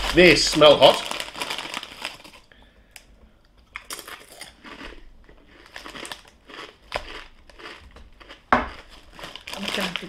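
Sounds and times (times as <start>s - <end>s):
crisps crunching being chewed: 0.0s - 2.5s, 3.7s - 10.0s.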